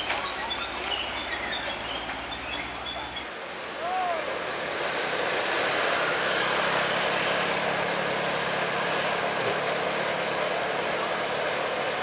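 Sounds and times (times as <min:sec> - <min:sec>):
road noise: 0:00.0 - 0:12.0
truck diesel engines droning: 0:00.0 - 0:12.0.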